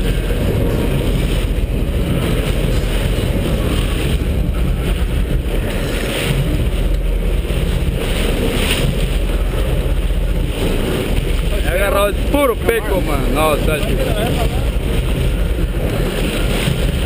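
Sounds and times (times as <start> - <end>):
boat engines running: 0.0 - 17.0
wake churning and splashing: 0.0 - 17.0
wind buffeting microphone: 0.0 - 17.0.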